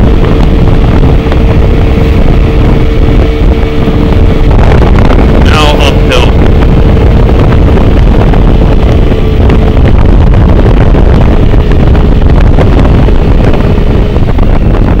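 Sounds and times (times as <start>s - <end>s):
scooter engine at high revs: 0.0s - 15.0s
wind buffeting microphone: 0.0s - 15.0s.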